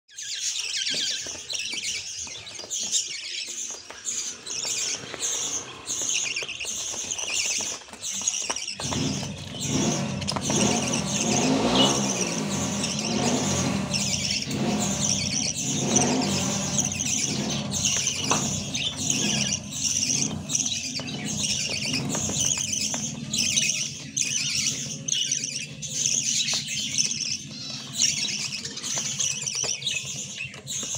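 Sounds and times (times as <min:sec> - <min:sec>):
budgerigar chicks chirping: 0:00.1 - 0:30.9.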